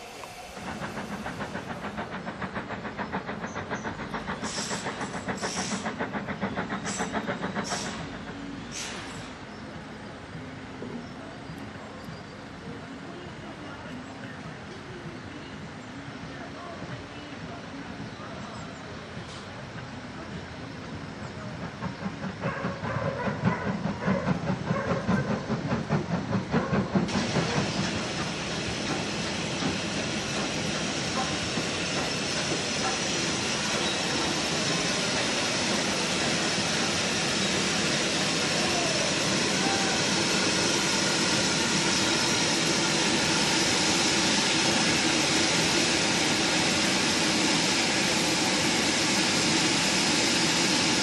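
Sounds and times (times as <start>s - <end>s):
steam locomotive exhaust beating: 0.0s - 11.0s, 19.1s - 51.0s
steam hiss: 0.0s - 13.0s, 20.9s - 51.0s.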